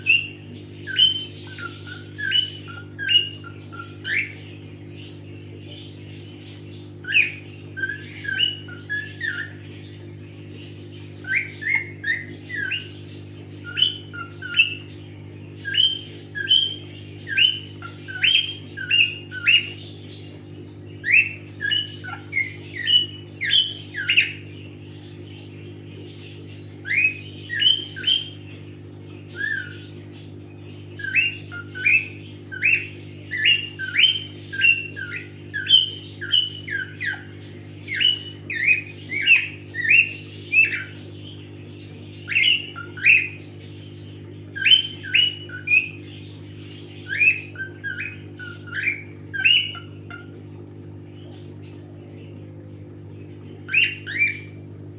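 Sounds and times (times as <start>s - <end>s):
parrot calling: 0.0s - 51.9s, 53.2s - 54.7s
steady low hum: 0.0s - 54.9s.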